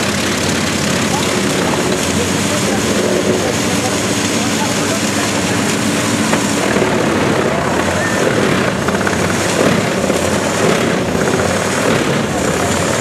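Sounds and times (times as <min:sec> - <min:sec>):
wood chipper chipping tree trunks: 0:00.0 - 0:13.0.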